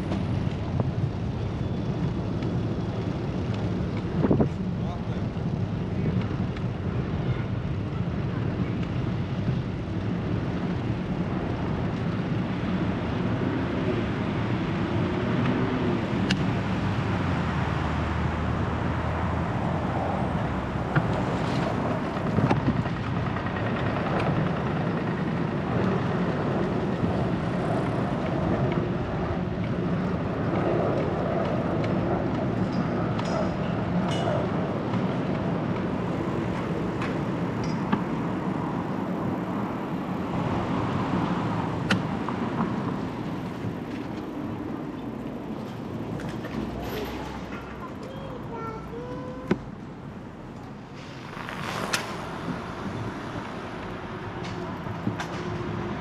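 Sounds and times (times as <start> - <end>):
bicycle rolling: 0.0 - 48.8, 51.0 - 56.0
cars going by: 0.0 - 56.0.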